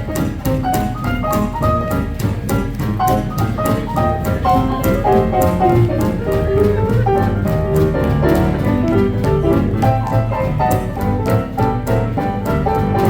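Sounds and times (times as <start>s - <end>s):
piano: 0.0s - 13.0s
swing jazz band playing: 0.0s - 13.0s.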